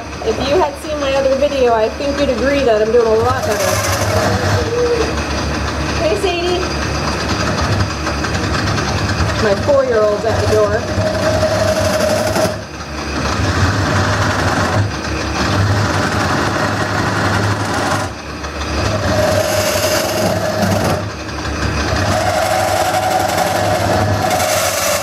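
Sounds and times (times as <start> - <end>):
gouge cutting spinning wood: 0.0 - 25.0
steady whine: 0.0 - 25.0
wood lathe motor hum: 0.0 - 25.0.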